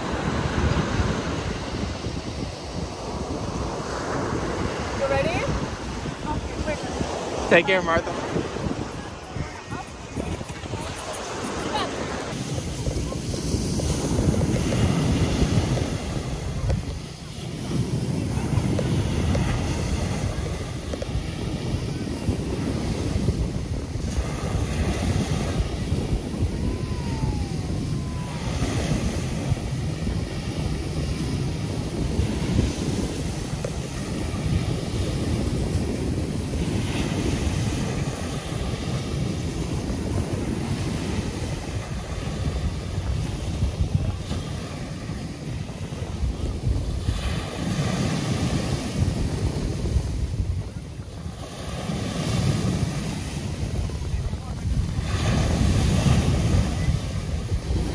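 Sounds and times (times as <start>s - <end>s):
ocean surf on sandy beach: 0.0s - 57.9s
wind rumble on microphone: 0.0s - 57.9s.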